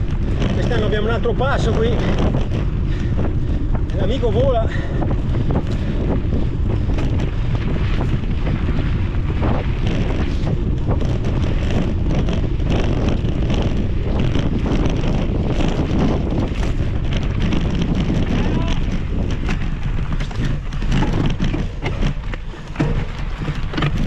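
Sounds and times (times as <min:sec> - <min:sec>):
bike clicks and rattles: 0:00.0 - 0:24.0
wind buffeting microphone: 0:00.0 - 0:24.0.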